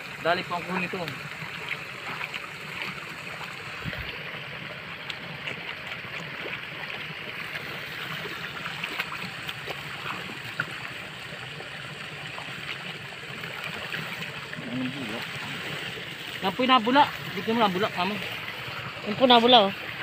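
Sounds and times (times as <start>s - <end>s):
water trickling and gurgling: 0.0s - 20.0s.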